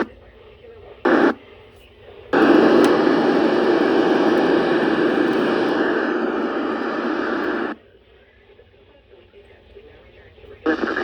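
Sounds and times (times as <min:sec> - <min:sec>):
radio static hissing: 0:00.0 - 0:07.8, 0:09.2 - 0:11.0.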